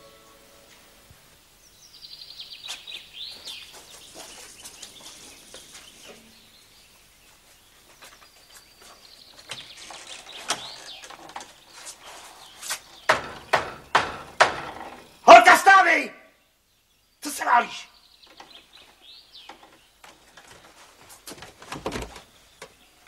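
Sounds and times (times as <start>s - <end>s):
small birds chirping: 1.4s - 23.0s.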